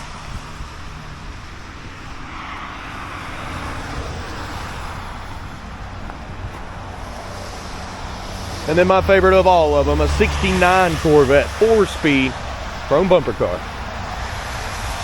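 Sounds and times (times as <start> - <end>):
road traffic rumble and hiss: 0.0 - 15.0
vehicle passing: 0.0 - 15.0.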